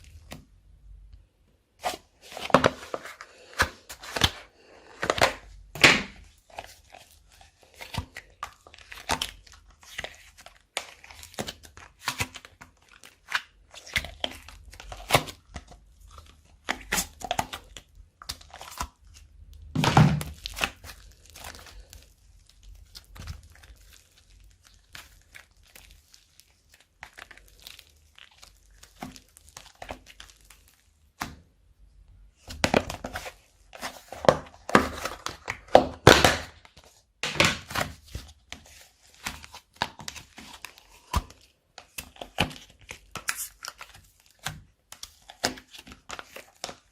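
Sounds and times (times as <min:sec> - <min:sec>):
slime squishing wetly: 0:01.8 - 0:46.9.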